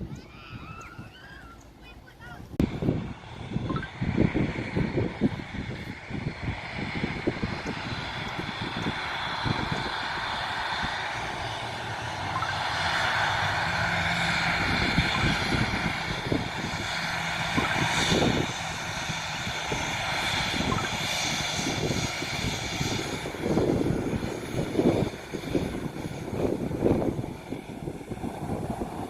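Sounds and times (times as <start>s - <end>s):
airplane engines humming: 0.0s - 29.0s
low rumbles: 0.0s - 29.0s.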